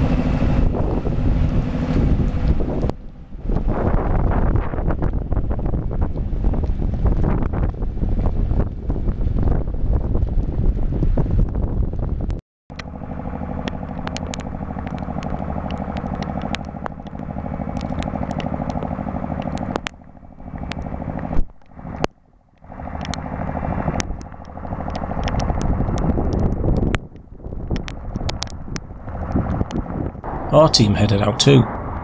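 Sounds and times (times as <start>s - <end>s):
truck diesel engine drone: 0.0s - 9.0s, 12.7s - 32.0s.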